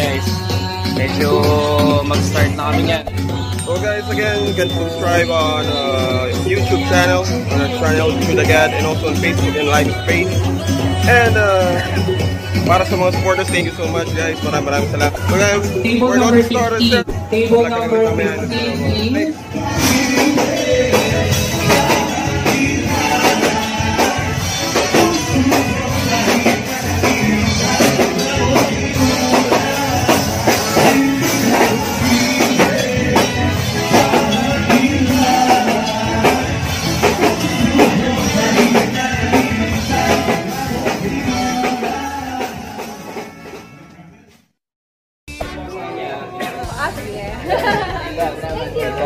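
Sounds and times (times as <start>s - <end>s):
person singing: 0.0s - 17.1s, 18.1s - 43.4s
live band playing upbeat song: 0.0s - 44.4s, 45.3s - 49.0s.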